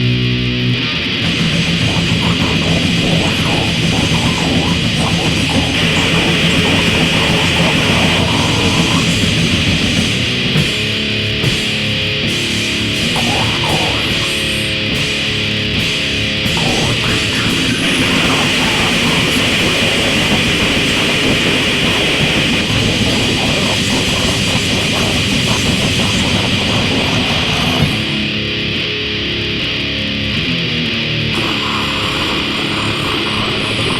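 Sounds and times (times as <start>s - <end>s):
grind metal music: 0.0s - 33.9s.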